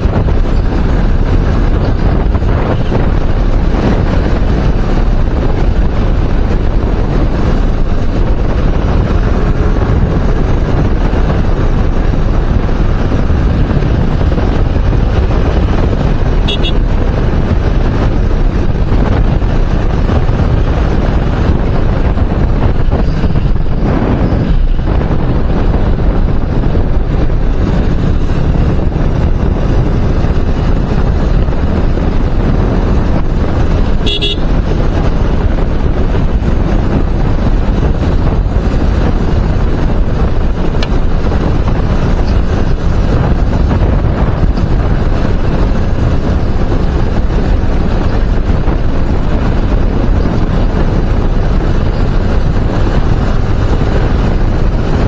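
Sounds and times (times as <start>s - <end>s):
motorcycle engine and road noise: 0.0s - 55.0s
wind rushing over microphone: 0.0s - 55.0s.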